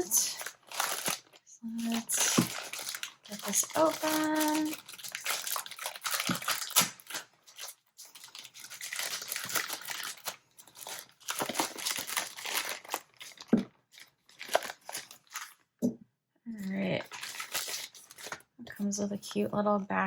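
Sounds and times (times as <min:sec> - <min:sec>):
packaging crinkling and tearing: 0:00.0 - 0:15.6, 0:16.6 - 0:18.6.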